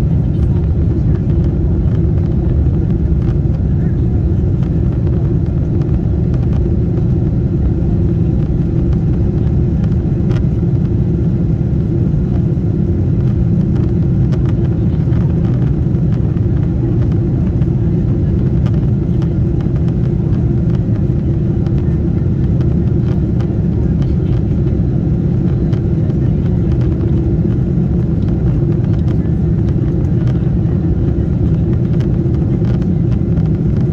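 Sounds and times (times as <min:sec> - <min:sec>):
airplane cabin engine roar: 0:00.0 - 0:33.9.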